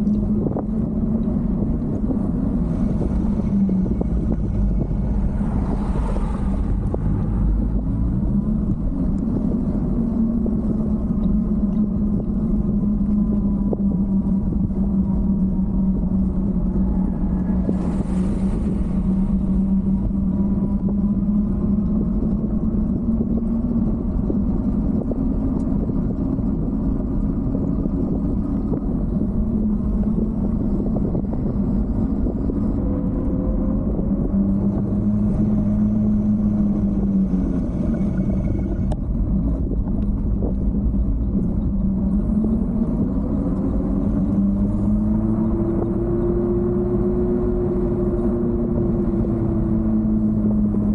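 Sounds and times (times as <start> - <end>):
wind rumble on microphone: 0.0 - 50.9.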